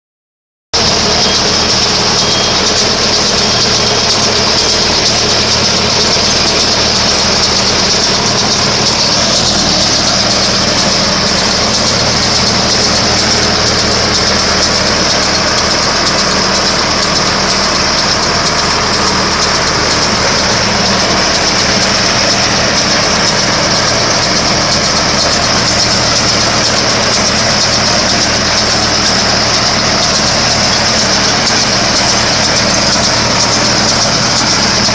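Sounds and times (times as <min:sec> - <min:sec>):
tractor engine running: 0:00.7 - 0:34.9.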